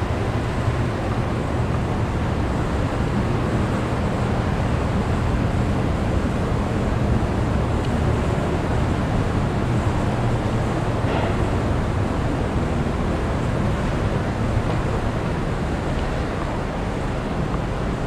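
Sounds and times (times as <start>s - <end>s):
hydraulic power unit droning: 0.0s - 18.0s.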